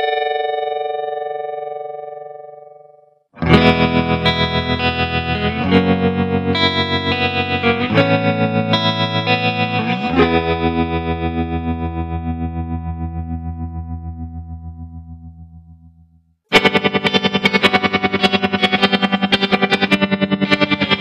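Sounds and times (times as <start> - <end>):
electric guitar chords with tremolo: 0.0 - 2.8, 3.4 - 15.8, 16.5 - 21.0.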